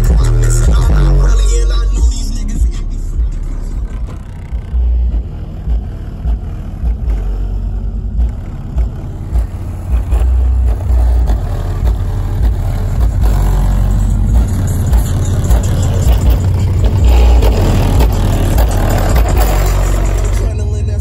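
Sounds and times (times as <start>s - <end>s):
pulsing subwoofer bass music: 0.0s - 21.0s.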